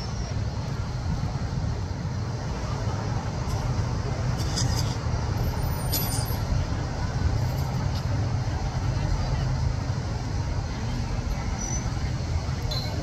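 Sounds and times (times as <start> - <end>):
murmur of many voices: 0.0 - 13.0
vehicle engine rumbling: 0.0 - 13.0.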